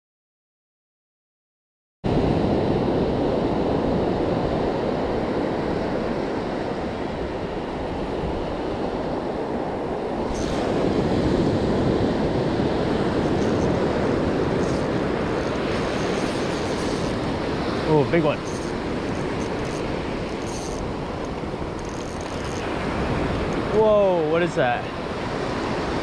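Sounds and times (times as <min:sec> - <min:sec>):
wind buffeting microphone: 0:02.1 - 0:23.8
surf washing onto beach: 0:02.1 - 0:26.0.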